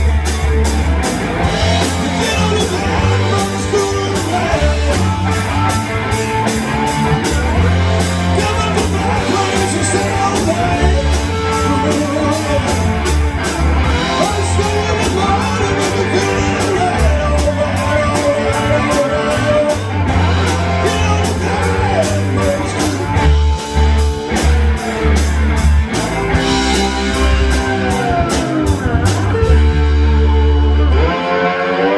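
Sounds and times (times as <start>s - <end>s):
rock music with electric guitar: 0.0s - 31.9s
sliding guitar notes: 0.0s - 31.9s
person singing: 1.4s - 24.0s, 26.4s - 31.9s.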